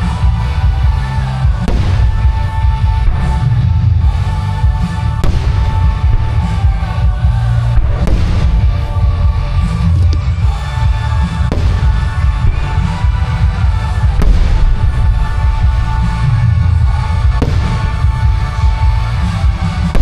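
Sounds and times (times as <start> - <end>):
heavy low rumble: 0.0 - 20.0
music over loudspeakers: 0.0 - 20.0
firework bursts: 1.6 - 20.0.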